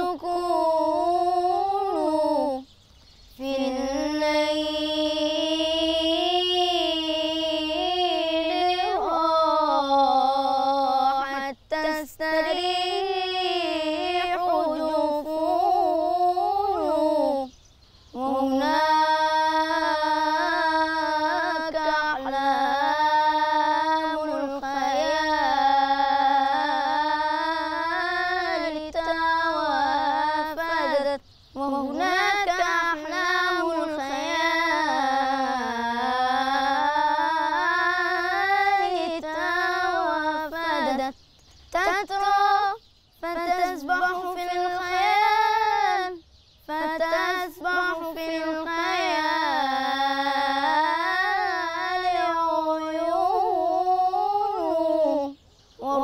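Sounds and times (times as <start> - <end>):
boy singing religious chant: 0.0 - 56.0.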